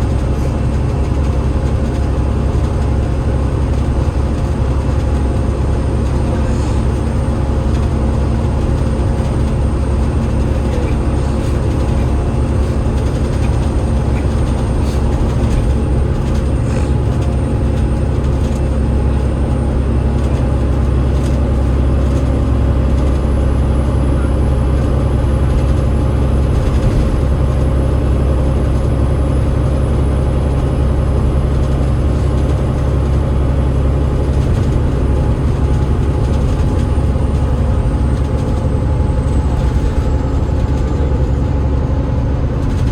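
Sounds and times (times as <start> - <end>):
bus drivetrain rumble: 0.0 - 42.9.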